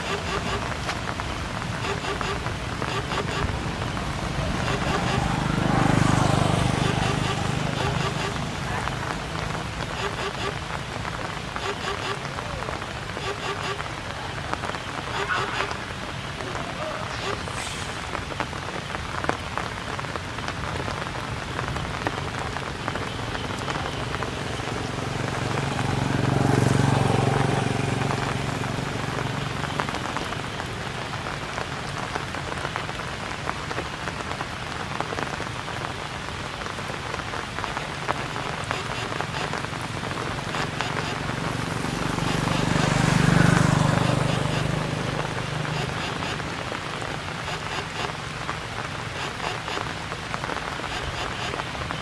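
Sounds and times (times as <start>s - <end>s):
rain pattering on surfaces: 0.0s - 52.0s.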